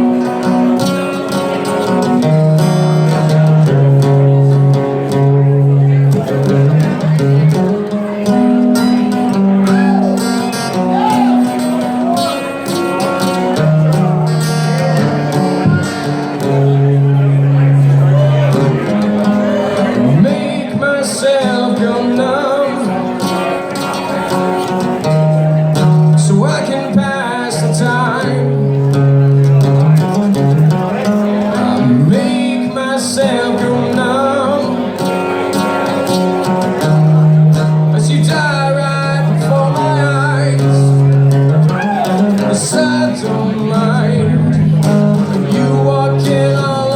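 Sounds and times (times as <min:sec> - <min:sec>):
guitar: 0:00.0 - 0:46.9.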